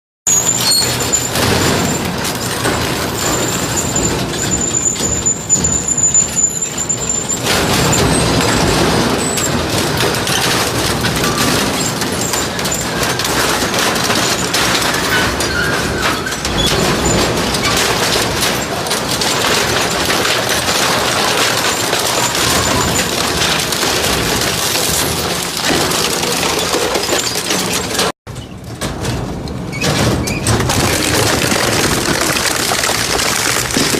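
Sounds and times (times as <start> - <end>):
scrap metal shredder grinding: 0.3 - 33.9.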